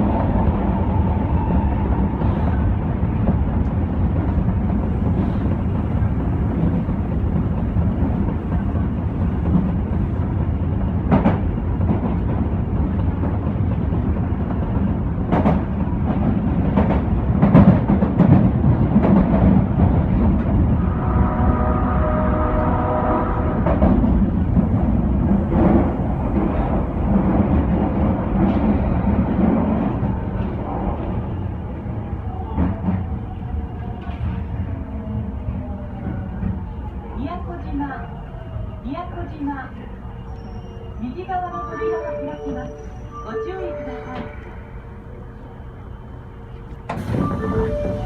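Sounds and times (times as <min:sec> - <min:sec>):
subway car rumble: 0:00.0 - 0:48.0.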